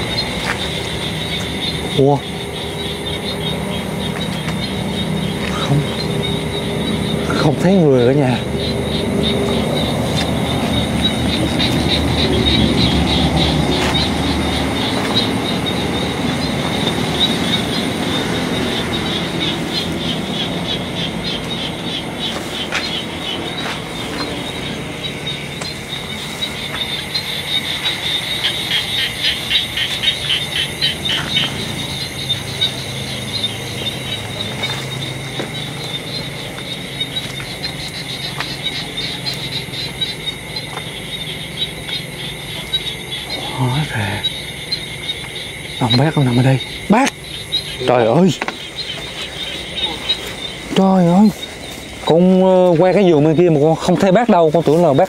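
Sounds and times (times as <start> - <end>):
low rumbling background: 0.0 - 46.0
crickets trilling: 0.0 - 55.0
night insects chirping: 0.0 - 55.0.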